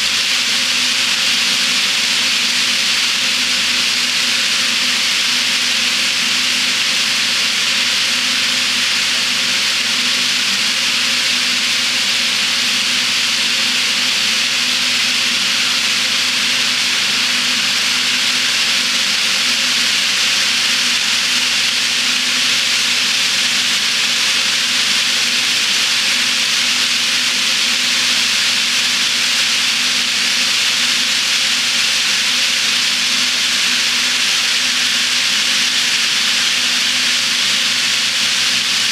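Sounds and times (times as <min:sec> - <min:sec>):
model train wheels hissing on rails: 0:00.0 - 0:38.9.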